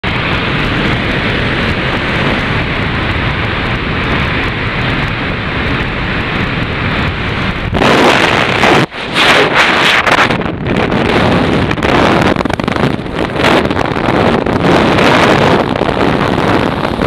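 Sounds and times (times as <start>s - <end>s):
plane engine rushing: 0.0s - 17.0s
wind blasting on microphone: 0.0s - 17.0s.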